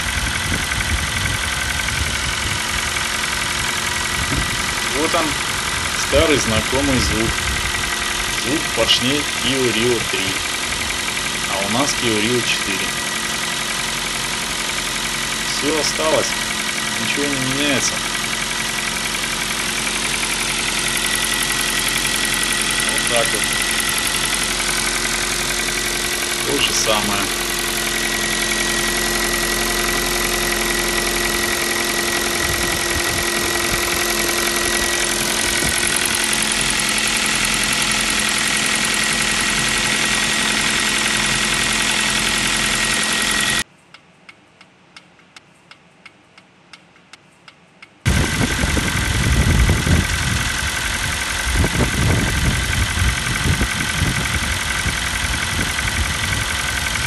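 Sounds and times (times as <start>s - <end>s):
car engine idling with knock: 0.0s - 43.6s, 48.0s - 57.0s.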